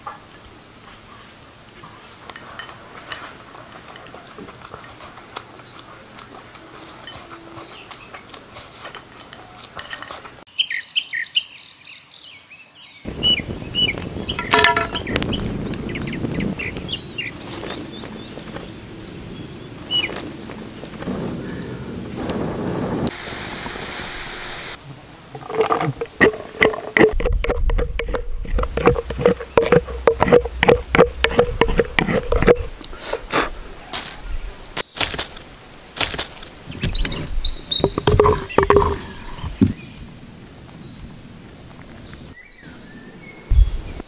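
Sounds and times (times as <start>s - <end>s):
faint outdoor background: 0.0s - 44.0s.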